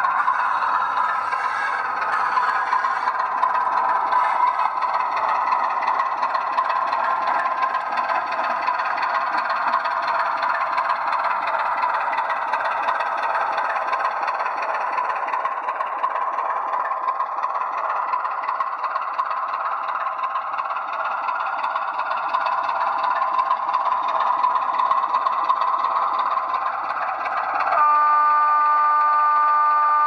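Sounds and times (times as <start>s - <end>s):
wheels clattering over track: 0.0s - 27.8s
model train motor hum: 0.0s - 30.0s.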